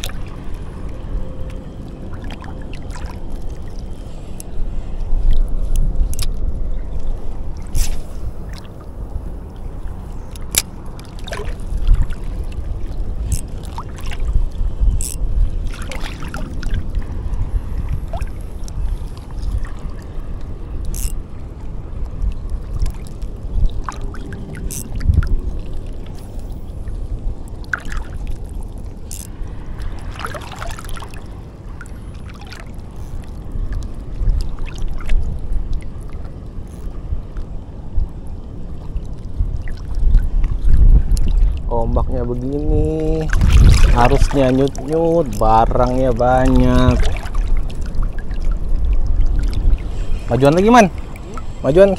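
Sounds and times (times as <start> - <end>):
small waves lapping: 0.0 - 51.9.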